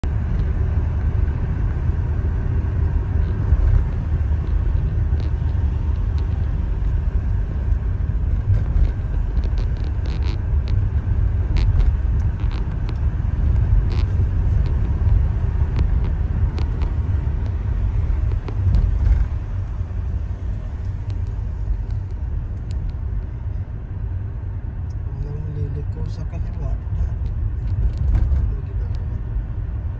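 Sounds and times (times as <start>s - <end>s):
car cabin road rumble: 0.0s - 29.9s.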